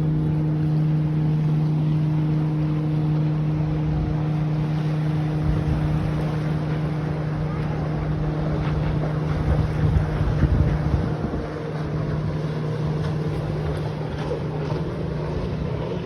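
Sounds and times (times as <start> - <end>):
motorboat engine droning: 0.0 - 16.0
wind buffeting microphone: 2.3 - 16.0.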